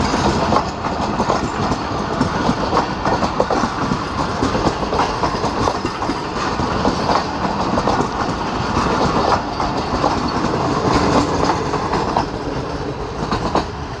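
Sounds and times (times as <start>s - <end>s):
train running noise: 0.0s - 14.0s
wheels clattering over rail joints: 0.0s - 14.0s.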